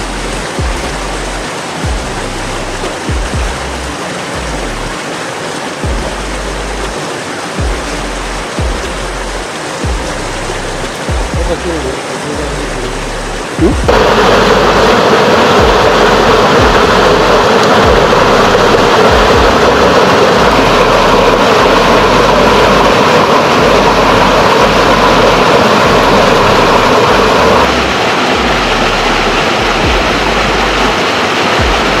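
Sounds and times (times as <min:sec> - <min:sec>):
fast-flowing water rushing: 0:00.0 - 0:32.0.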